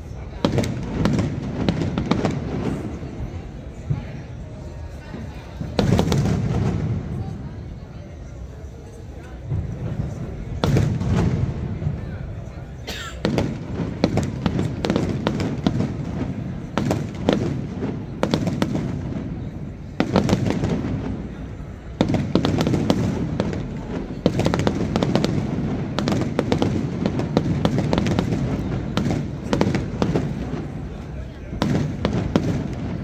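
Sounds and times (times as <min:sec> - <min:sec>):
fireworks bangs and crackling: 0:00.0 - 0:08.5, 0:09.2 - 0:33.0
heavy firework booms: 0:00.4 - 0:03.1, 0:05.6 - 0:07.4, 0:09.5 - 0:12.5, 0:13.2 - 0:33.0.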